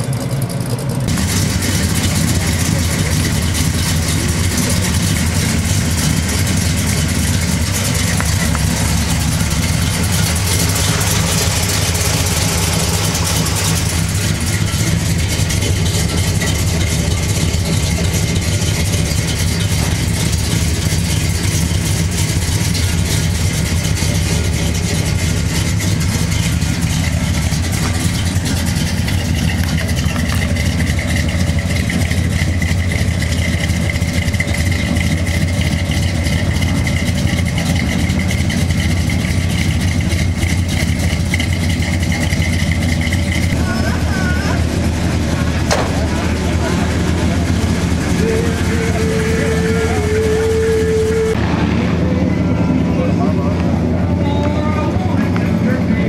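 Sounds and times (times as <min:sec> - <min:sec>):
pickup engine idling: 0:00.0 - 0:56.0.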